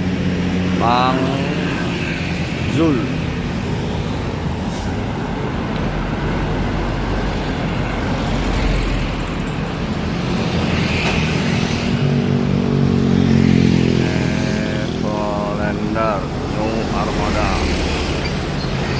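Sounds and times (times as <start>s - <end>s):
bus engine rumble: 0.0s - 13.0s, 14.0s - 18.9s
road noise: 0.0s - 18.9s.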